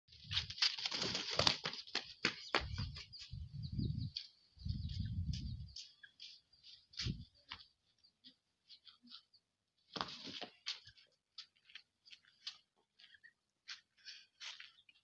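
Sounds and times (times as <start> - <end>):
birds chirping: 1.6 - 11.0, 12.2 - 15.0.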